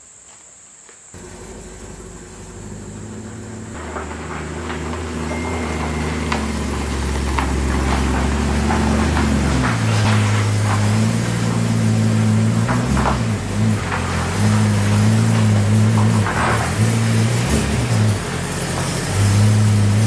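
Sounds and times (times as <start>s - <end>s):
car engine at low revs: 1.2s - 20.0s.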